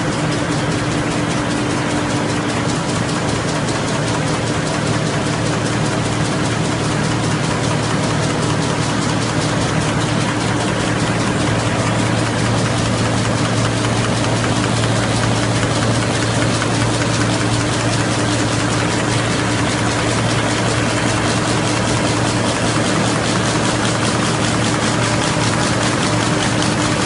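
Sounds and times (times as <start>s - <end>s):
machine clattering: 0.0s - 27.0s
machine hum: 0.0s - 27.0s.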